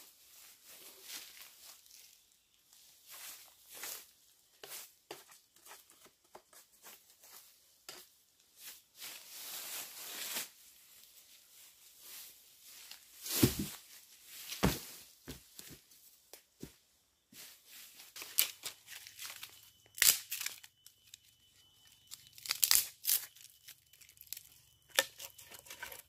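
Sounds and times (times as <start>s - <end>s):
dry grass and leaves crackling: 0.0s - 5.2s, 6.8s - 16.6s, 17.4s - 26.0s.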